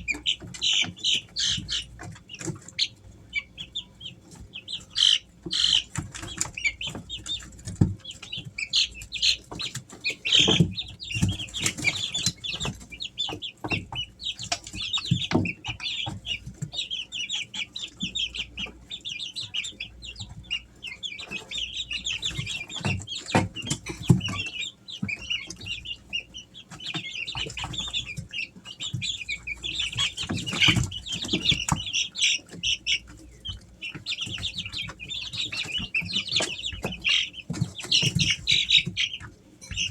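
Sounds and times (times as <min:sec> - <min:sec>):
chicks peeping: 0:00.0 - 0:39.9
sharp knocks and scratches: 0:04.3 - 0:18.8, 0:21.2 - 0:39.9.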